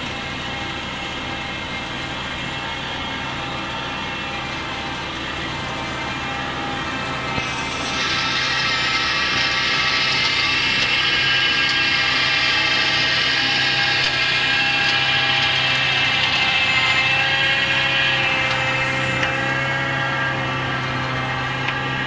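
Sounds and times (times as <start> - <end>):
flail mulcher whine: 0.0 - 22.0
tractor engine hum: 0.0 - 22.0.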